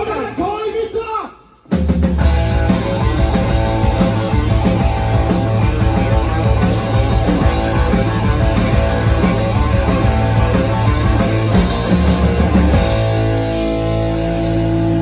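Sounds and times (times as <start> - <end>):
rock band playing: 1.7 - 15.0.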